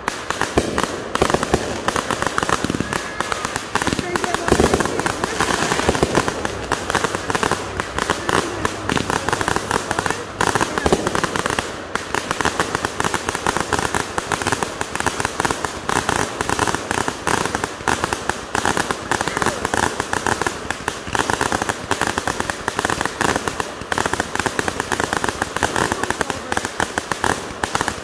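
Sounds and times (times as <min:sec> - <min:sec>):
fireworks crackling and popping: 0:00.0 - 0:28.0.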